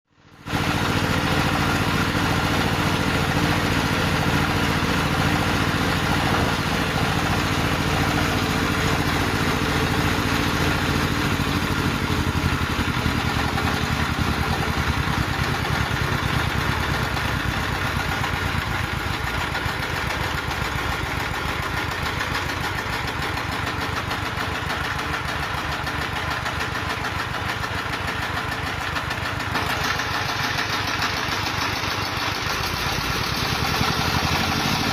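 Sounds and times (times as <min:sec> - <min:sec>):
diesel engine unsteady idle: 0:00.2 - 0:34.9.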